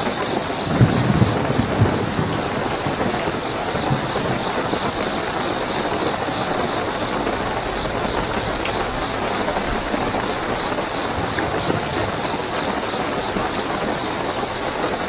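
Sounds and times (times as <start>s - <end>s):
crickets chirring: 0.0s - 15.0s
heavy rain: 0.0s - 15.0s.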